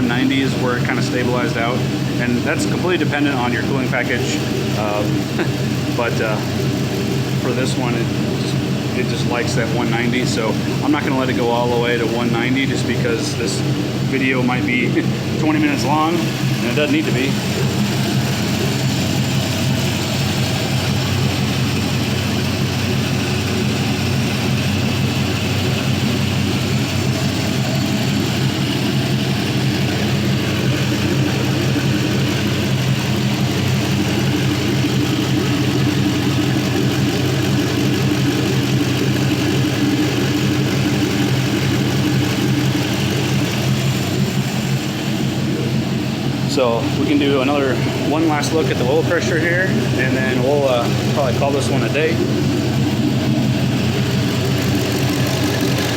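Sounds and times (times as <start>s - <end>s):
engine idling: 0.0s - 55.9s.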